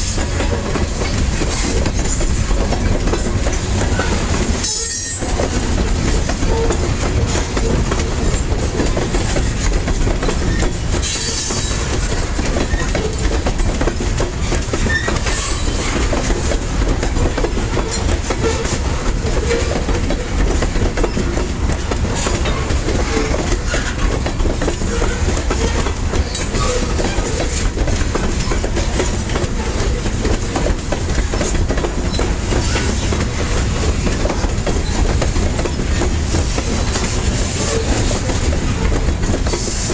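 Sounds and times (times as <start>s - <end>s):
freight train rolling past: 0.0s - 39.9s
wheels clacking over rail joints: 0.0s - 39.9s.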